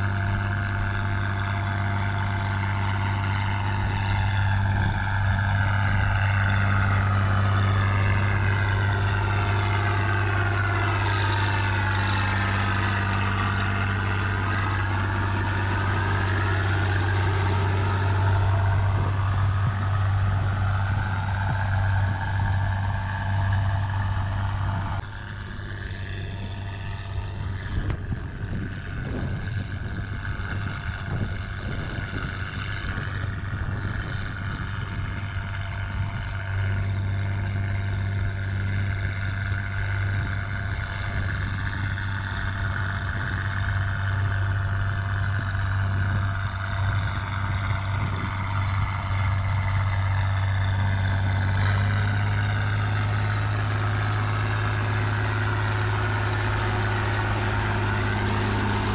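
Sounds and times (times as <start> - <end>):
diesel tractor running under load: 0.0 - 58.9
rotary tiller churning mud: 0.0 - 58.9
walking tractor engine: 0.0 - 58.9
whine sliding in pitch: 0.0 - 58.9.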